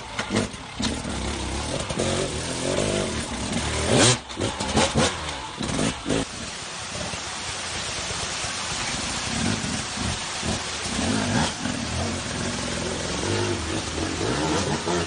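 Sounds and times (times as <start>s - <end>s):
motorcycle engine revving: 0.0s - 7.2s, 9.3s - 15.0s
steady rushing hiss: 0.0s - 15.0s.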